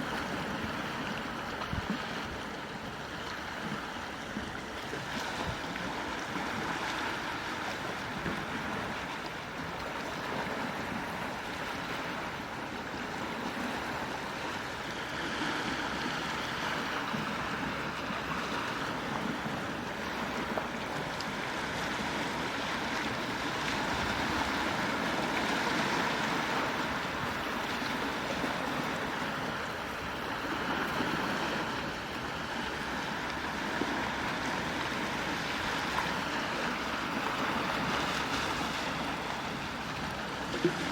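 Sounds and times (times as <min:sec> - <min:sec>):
ocean waves washing ashore: 0:00.0 - 0:40.9.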